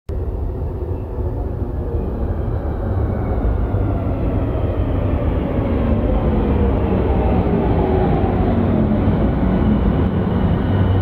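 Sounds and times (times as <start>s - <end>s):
metro train rumble: 0.1s - 11.0s.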